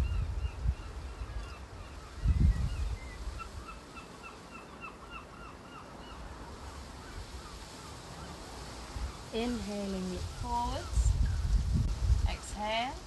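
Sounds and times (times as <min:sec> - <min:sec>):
wind buffeting microphone: 0:00.0 - 0:03.9, 0:06.3 - 0:13.0.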